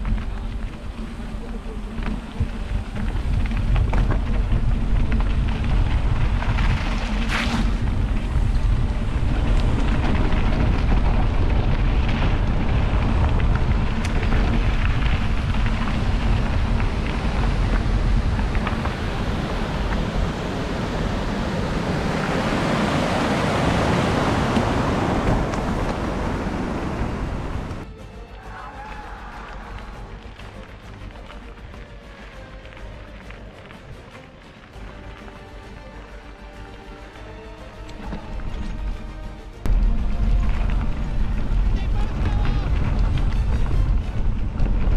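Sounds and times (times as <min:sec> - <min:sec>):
wind buffeting microphone: 0:00.0 - 0:27.9, 0:34.9 - 0:44.9.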